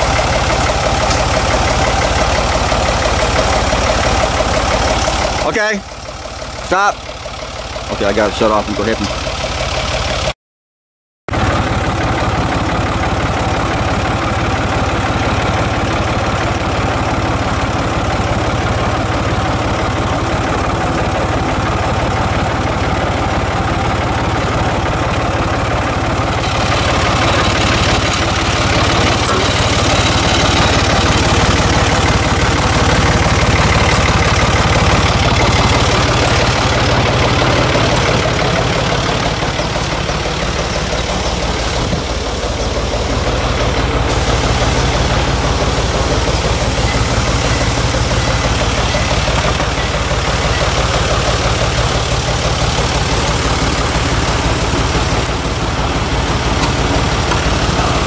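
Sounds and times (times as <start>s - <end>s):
tractor engine idling: 0.0s - 10.3s, 11.3s - 58.0s.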